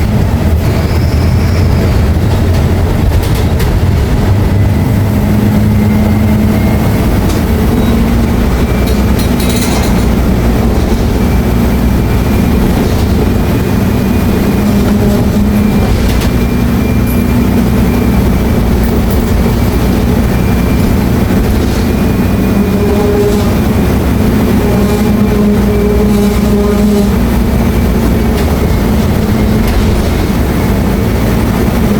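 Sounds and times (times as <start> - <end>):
bus diesel engine droning: 0.0 - 31.9.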